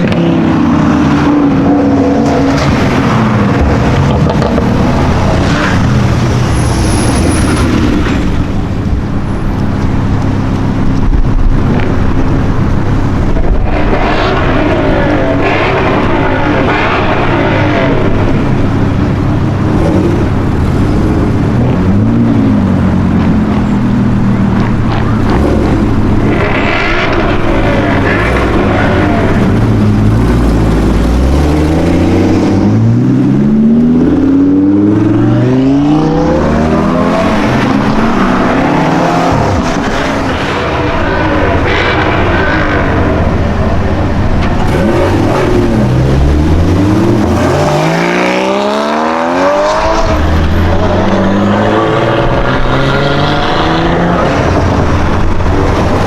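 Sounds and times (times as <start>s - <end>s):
sports car engine revving: 0.0s - 56.0s.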